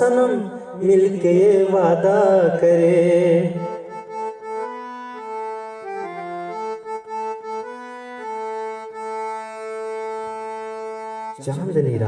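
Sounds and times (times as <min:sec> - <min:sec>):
reed keyboard melody: 0:00.0 - 0:12.0.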